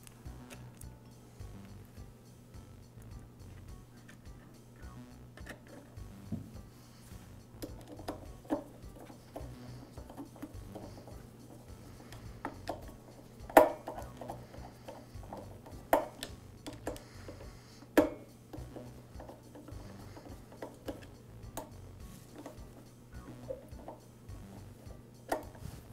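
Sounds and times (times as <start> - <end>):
faint steady low hum: 0.0 - 25.9.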